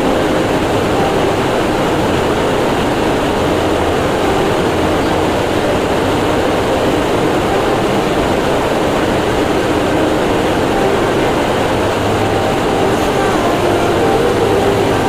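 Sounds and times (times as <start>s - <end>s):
faint hum: 0.0s - 15.0s
loud machinery noise: 0.0s - 15.0s.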